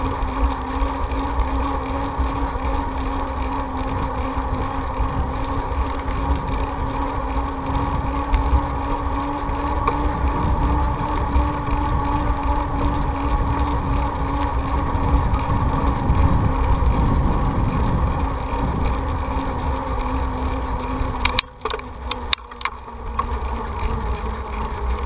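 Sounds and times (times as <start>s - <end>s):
bicycle riding drone: 0.0s - 25.0s
wind rumbling on microphone: 0.0s - 25.0s.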